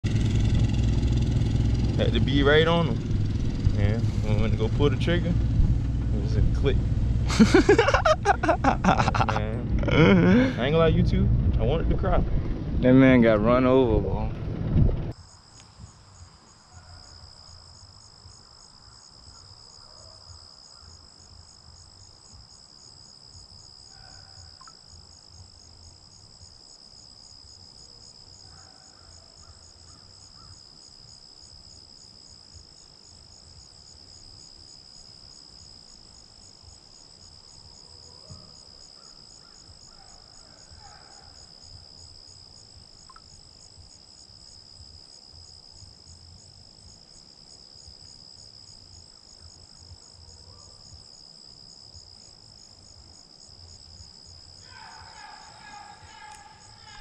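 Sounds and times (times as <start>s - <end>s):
crickets trilling: 0.1s - 11.2s, 15.1s - 57.0s.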